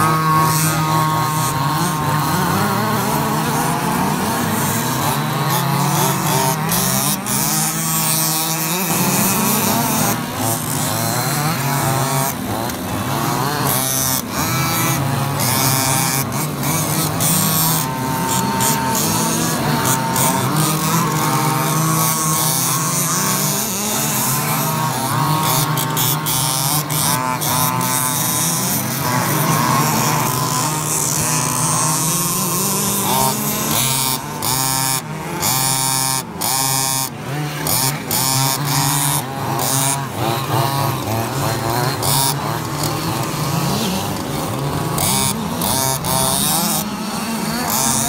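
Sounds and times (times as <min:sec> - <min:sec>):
small engines revving whine: 0:00.0 - 0:48.0.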